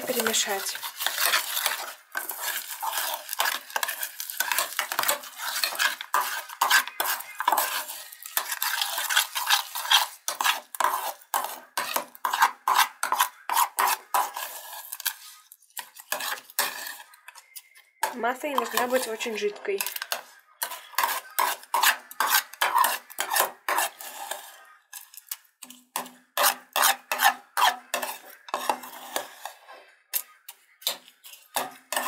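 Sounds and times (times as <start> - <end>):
metal spoon scraping a bowl: 0.0 - 32.0.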